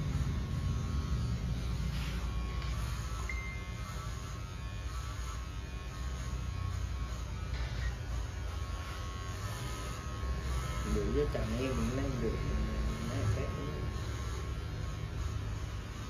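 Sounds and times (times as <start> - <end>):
electric hair clipper buzzing: 0.0 - 16.0.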